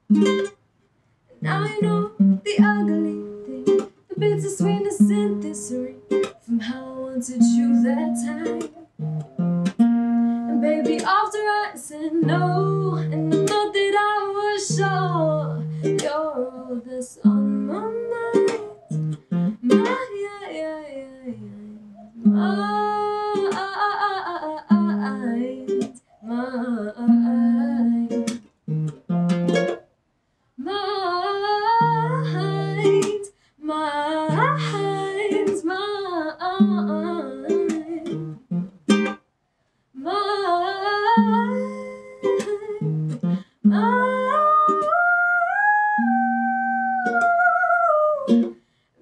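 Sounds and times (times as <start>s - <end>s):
fingerpicked classical guitar: 0.0s - 0.6s, 1.4s - 29.8s, 31.6s - 39.2s, 40.1s - 48.6s
woman singing: 1.4s - 8.8s, 10.4s - 19.0s, 19.6s - 28.4s, 30.6s - 38.4s, 40.0s - 48.6s.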